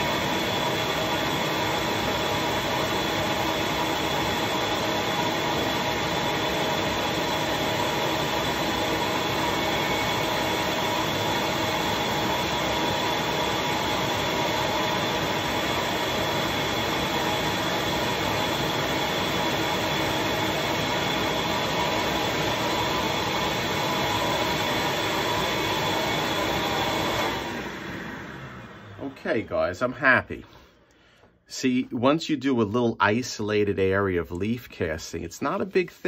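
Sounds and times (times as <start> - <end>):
vacuum motor whine: 0.0 - 29.4.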